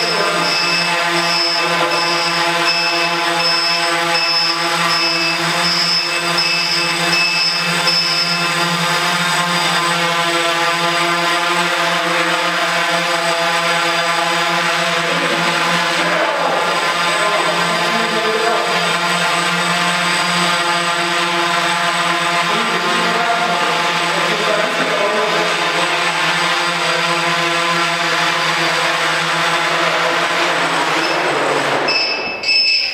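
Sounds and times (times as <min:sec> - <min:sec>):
drone propellers buzzing: 0:00.0 - 0:32.9.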